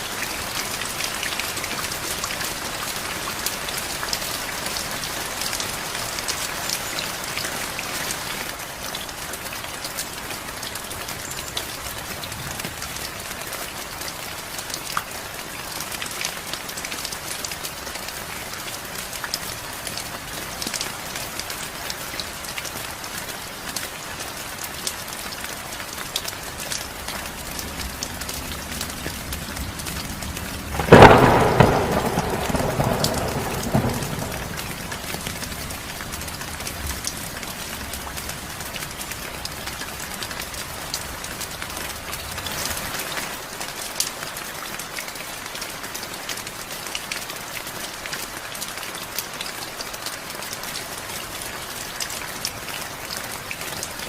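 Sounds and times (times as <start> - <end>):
heavy rain falling: 0.0 - 54.0
raindrops ticking: 8.9 - 54.0.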